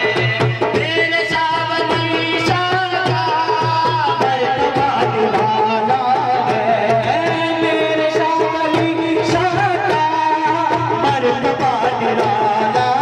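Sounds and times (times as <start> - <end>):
hand drum rhythm: 0.0 - 13.0
person singing: 0.0 - 13.0.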